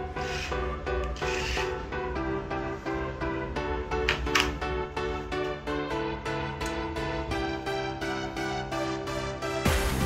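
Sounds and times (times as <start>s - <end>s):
keyboard melody music: 0.0s - 10.0s.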